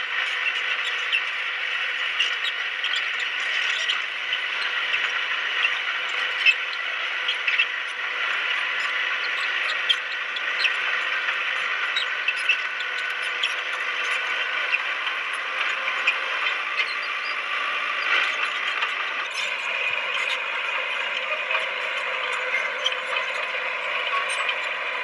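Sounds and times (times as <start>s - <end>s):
bulldozer mechanical whine: 0.0s - 25.0s.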